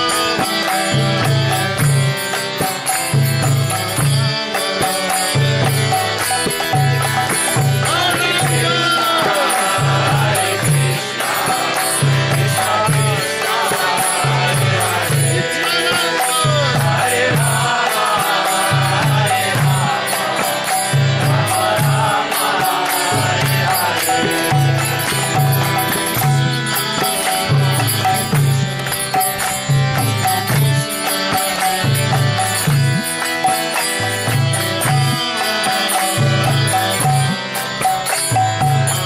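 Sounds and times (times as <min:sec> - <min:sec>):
devotional chanting: 0:00.0 - 0:39.0
rhythmic low drum: 0:00.0 - 0:39.0
sustained drone tones: 0:00.0 - 0:39.0.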